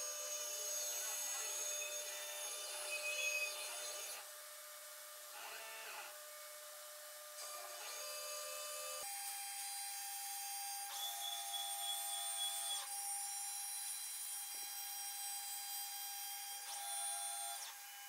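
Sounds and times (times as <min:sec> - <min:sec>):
router spindle motor whine: 0:00.0 - 0:04.3, 0:05.3 - 0:06.2, 0:07.4 - 0:18.0.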